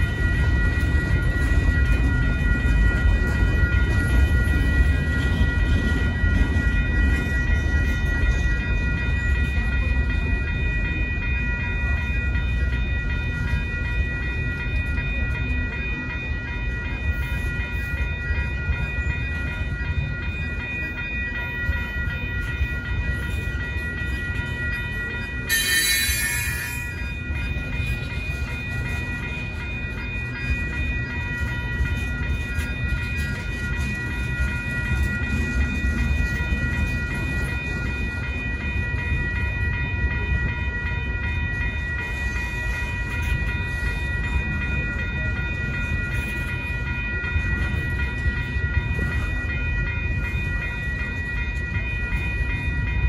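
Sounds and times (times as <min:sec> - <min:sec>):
crossing bell ringing: 0:00.0 - 0:53.0
train wheels rumbling on rail: 0:00.0 - 0:53.0.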